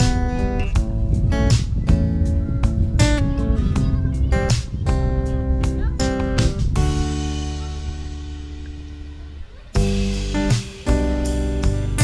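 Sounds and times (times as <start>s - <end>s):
background music chords: 0.0s - 12.0s.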